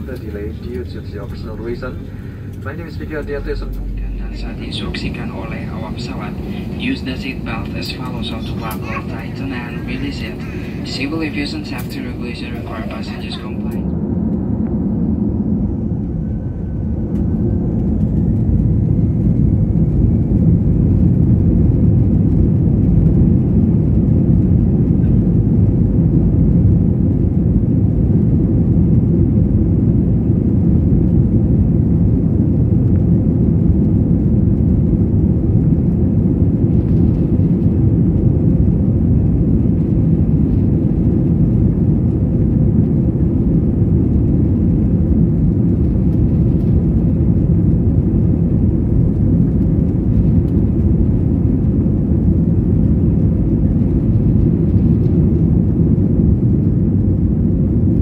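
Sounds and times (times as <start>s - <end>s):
jet engine rumble in cabin: 0.0s - 58.0s
jet engine whine: 0.0s - 58.0s.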